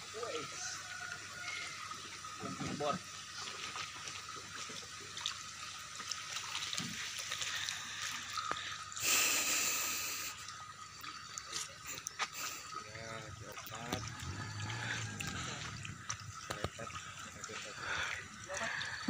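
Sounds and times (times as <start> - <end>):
water bubbling in fish tank: 3.0 - 19.0.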